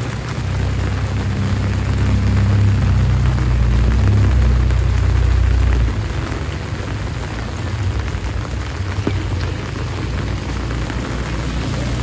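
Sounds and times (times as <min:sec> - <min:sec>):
heavy rain: 0:00.0 - 0:12.0
low rumble: 0:00.0 - 0:12.0.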